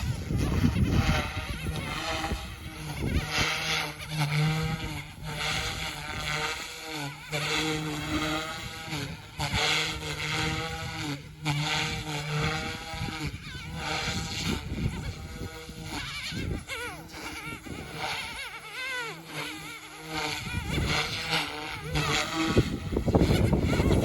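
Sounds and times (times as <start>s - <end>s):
rc helicopter rotor whine: 0.0s - 24.0s
wind buffeting microphone: 0.0s - 24.0s.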